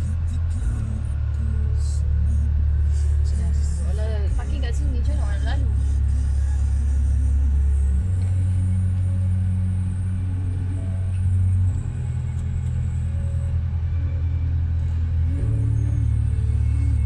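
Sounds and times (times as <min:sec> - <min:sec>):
deep bass notes from car radio: 0:00.0 - 0:17.0
low car rumble: 0:00.0 - 0:17.0.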